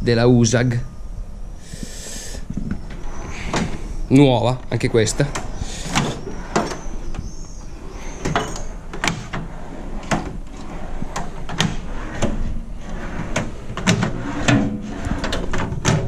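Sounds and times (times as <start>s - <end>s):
tool trolley drawers opening and shutting: 2.7s - 16.0s.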